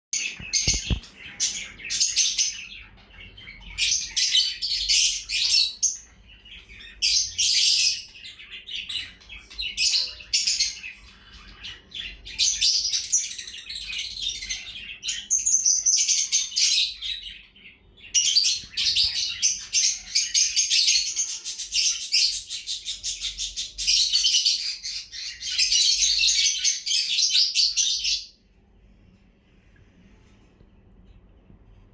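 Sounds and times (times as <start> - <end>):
lovebirds chirping and chattering: 0.2 - 31.9.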